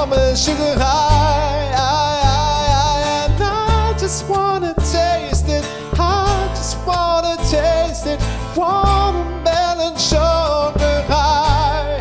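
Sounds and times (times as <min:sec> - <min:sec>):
acoustic guitar: 0:00.0 - 0:12.0
man singing: 0:00.0 - 0:12.0
plucked double bass: 0:00.0 - 0:12.0.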